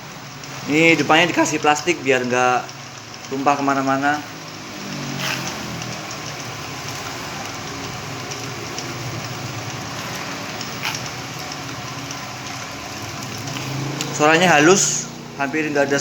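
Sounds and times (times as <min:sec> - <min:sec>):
low motor hum: 0:00.0 - 0:16.0
crackling hiss of peanuts grinding: 0:00.2 - 0:16.0.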